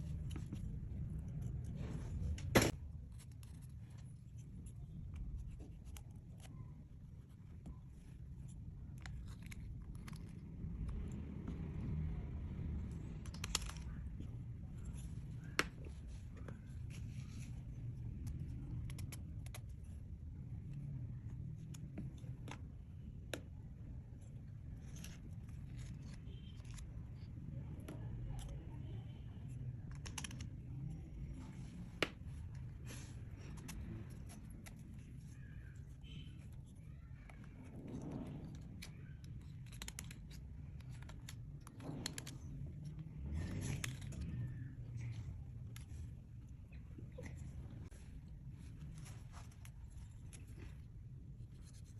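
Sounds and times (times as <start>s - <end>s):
low steady rumble: 0.0s - 51.9s.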